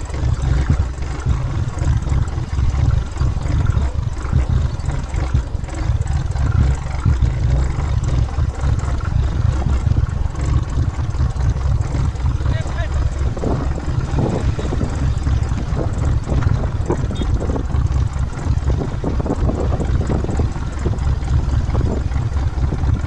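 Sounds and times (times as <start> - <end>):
motorcycle engine: 0.0 - 23.0
wind buffeting microphone: 0.0 - 23.0.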